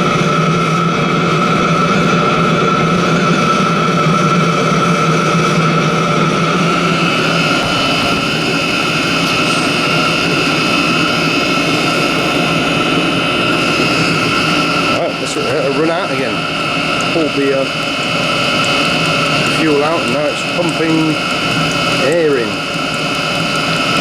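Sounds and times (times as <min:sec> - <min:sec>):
burner rushing: 0:00.0 - 0:24.0
heater fan whine: 0:00.0 - 0:24.0
low hum: 0:00.0 - 0:24.0.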